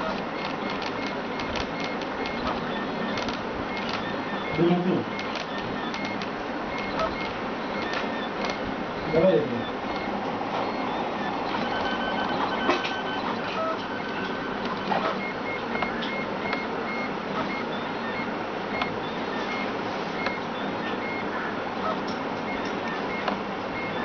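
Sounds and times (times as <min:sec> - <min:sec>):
steady printer hum: 0:00.0 - 0:24.0.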